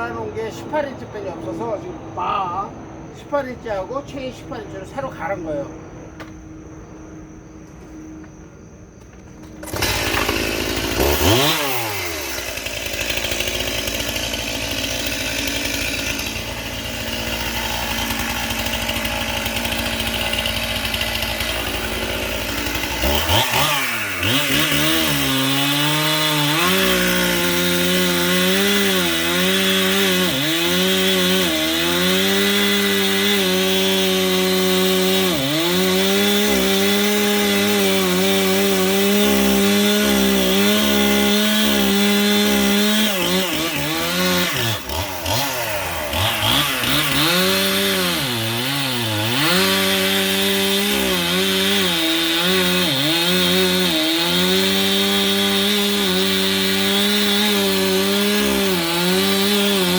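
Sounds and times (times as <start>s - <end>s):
chainsaw idling and revving: 0.0s - 1.8s, 9.4s - 59.9s
chainsaw cutting wood: 8.3s - 59.9s.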